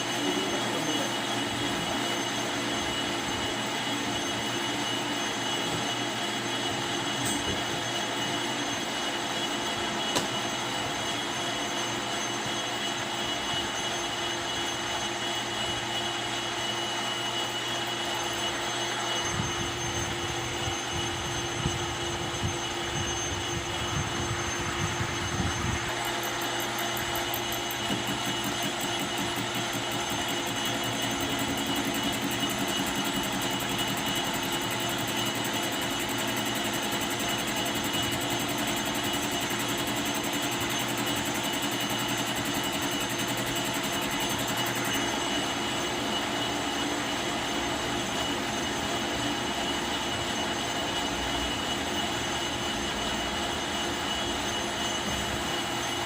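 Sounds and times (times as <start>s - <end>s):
metal lathe humming and whining: 0.0s - 56.0s.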